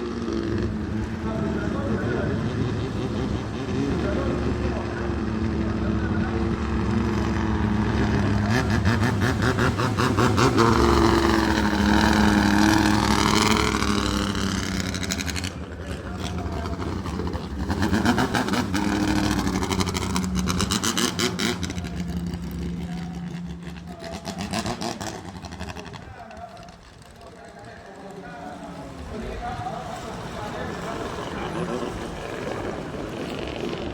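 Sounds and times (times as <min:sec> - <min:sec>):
racing boat engine at high revs: 0:00.0 - 0:33.9.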